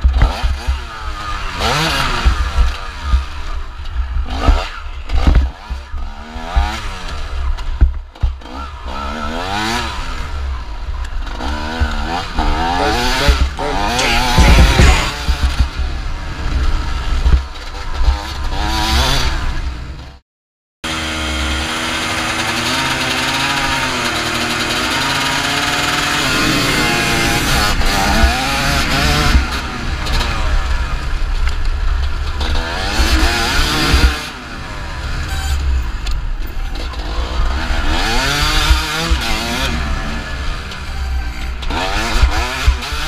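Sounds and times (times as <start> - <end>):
motorcycle engine revving: 0.0 - 20.2, 20.9 - 43.0.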